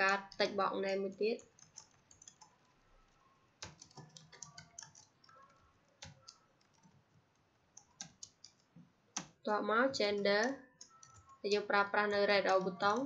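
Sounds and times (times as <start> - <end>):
computer keyboard typing: 0.0 - 13.0.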